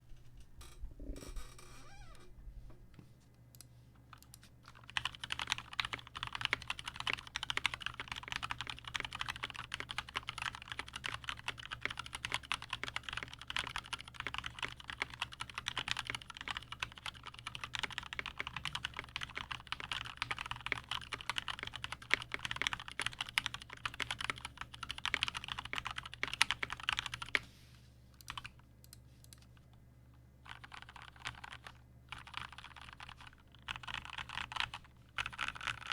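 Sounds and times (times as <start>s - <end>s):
mechanical keyboard typing: 4.2s - 27.4s, 28.2s - 28.6s, 30.5s - 35.9s.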